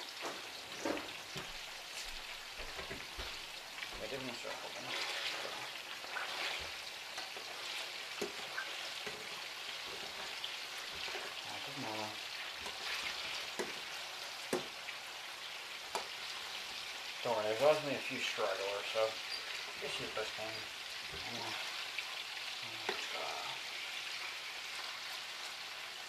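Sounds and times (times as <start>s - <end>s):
meatballs sizzling in a frying pan: 0.0s - 26.0s.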